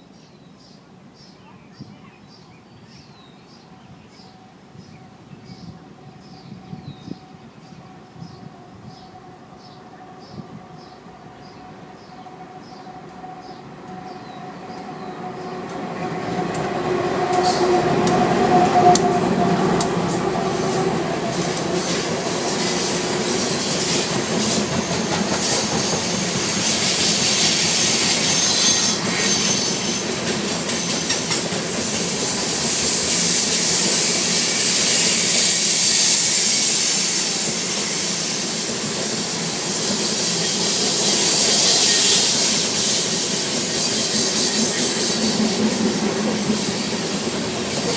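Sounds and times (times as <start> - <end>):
train cars rolling past: 7.2 - 47.9
wheels squealing on rails: 8.2 - 47.9.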